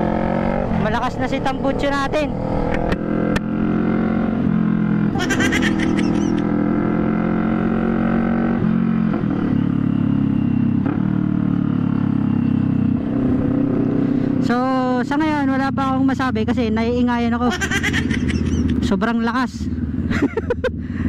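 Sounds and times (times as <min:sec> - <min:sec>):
loud motorcycle engine riding: 0:00.0 - 0:21.0.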